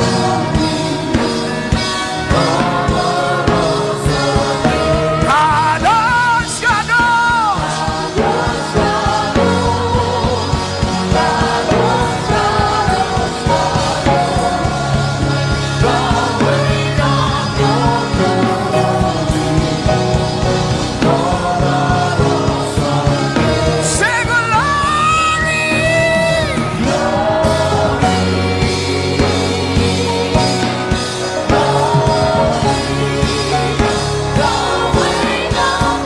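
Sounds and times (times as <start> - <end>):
band with drums bass and keyboard: 0.0 - 36.0
person singing lead vocal: 0.0 - 36.0.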